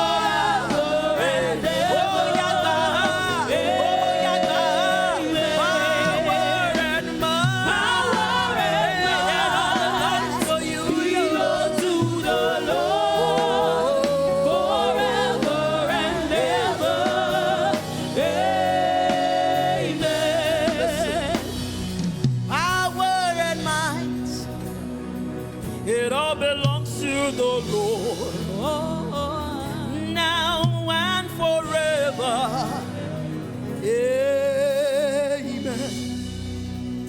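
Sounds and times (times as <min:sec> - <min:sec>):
gospel singing with vibrato: 0:00.0 - 0:37.0
instrumental accompaniment: 0:00.0 - 0:37.0.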